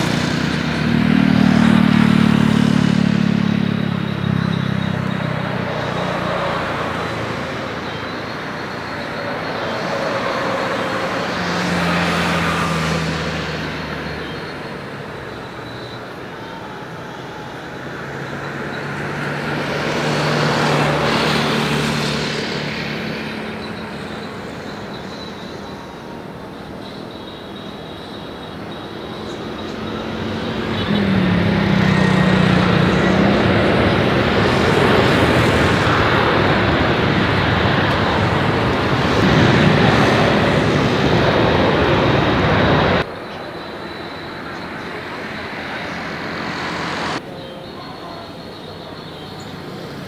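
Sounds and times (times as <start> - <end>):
jet plane passing: 0.0 - 47.2.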